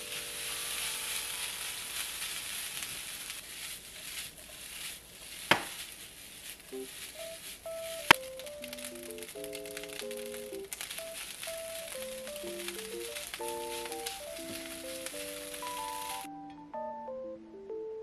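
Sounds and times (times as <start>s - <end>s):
rice sizzling in frying pan: 0.0s - 16.3s
spatula stirring: 0.0s - 16.3s.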